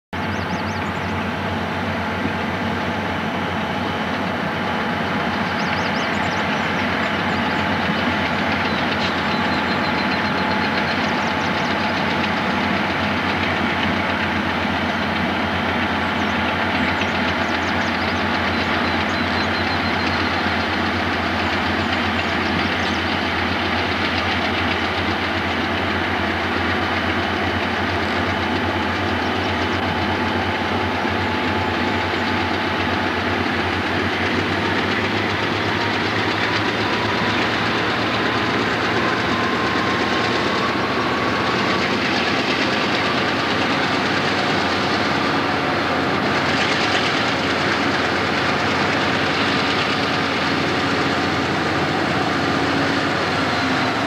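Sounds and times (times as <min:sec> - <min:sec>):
locomotive engines droning: 0:00.1 - 0:54.0.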